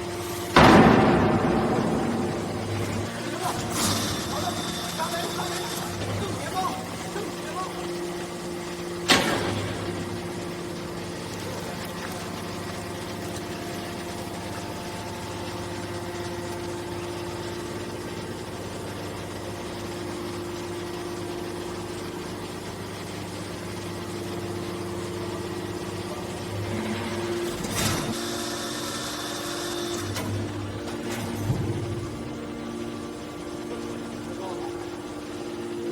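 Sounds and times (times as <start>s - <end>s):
baler pump motor humming: 0.0s - 35.9s.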